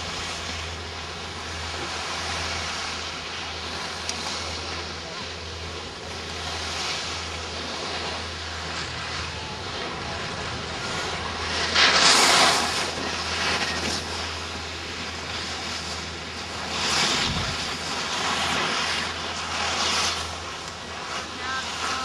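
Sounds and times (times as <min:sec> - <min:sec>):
low hum: 0:00.0 - 0:22.0
rushing outdoor noise: 0:00.0 - 0:22.0.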